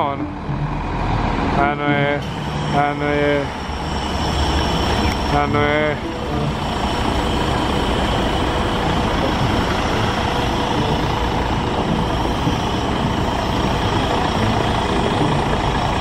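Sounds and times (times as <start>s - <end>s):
bus engine idling: 0.0s - 16.0s
faint high whine: 2.2s - 16.0s.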